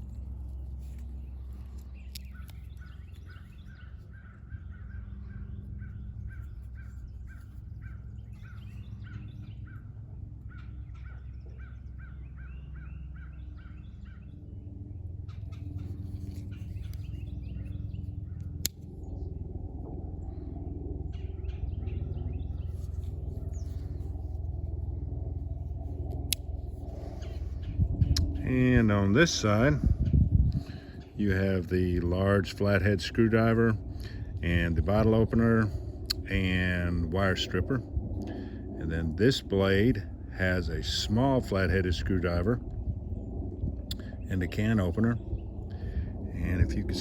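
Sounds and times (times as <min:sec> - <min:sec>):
steady low rumble: 0:00.0 - 0:47.0.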